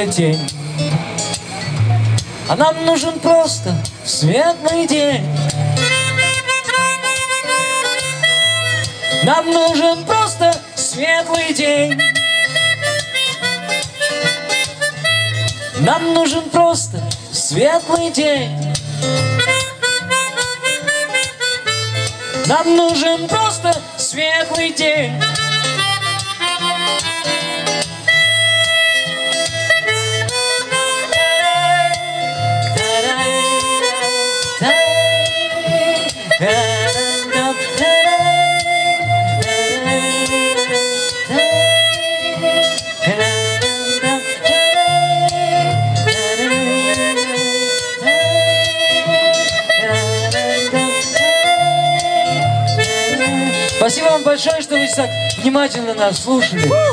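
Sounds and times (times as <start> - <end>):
guitar accompaniment: 0.0 - 56.9
harmonica with bent notes: 0.0 - 56.9.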